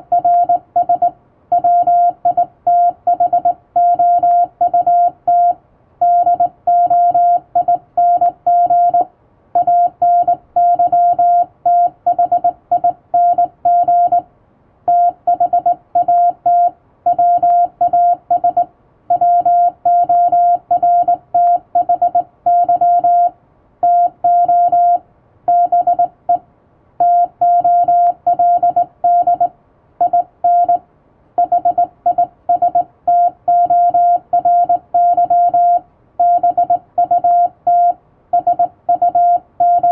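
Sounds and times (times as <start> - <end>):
morse code beeps: 0.0 - 14.2, 14.9 - 26.4, 27.0 - 30.8, 31.4 - 39.9.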